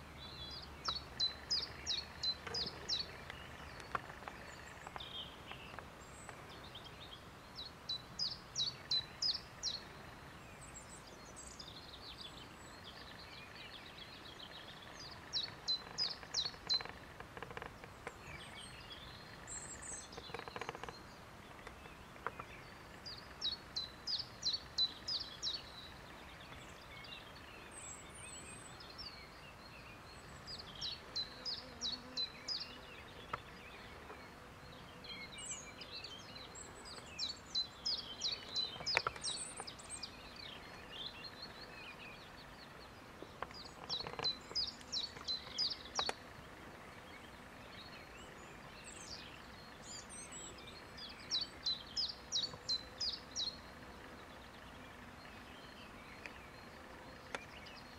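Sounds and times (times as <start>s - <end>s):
outdoor background: 0.0s - 57.9s
songbird singing high repeated notes: 0.0s - 57.9s.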